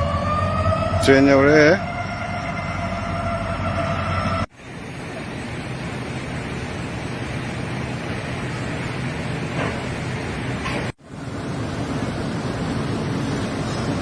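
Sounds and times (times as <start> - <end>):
train rushing noise: 0.0 - 14.0.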